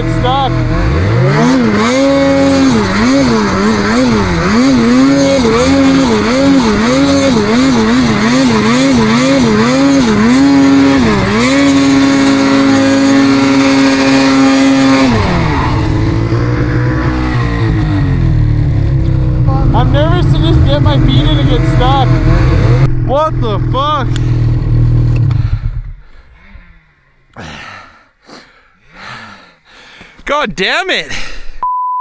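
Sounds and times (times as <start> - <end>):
snowmobile engine revving: 0.0 - 26.7.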